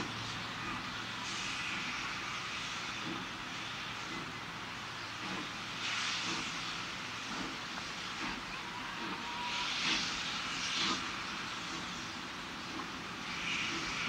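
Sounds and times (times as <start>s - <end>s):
steam hissing: 0.0s - 14.0s
steam locomotive exhaust chuffs: 0.0s - 14.0s.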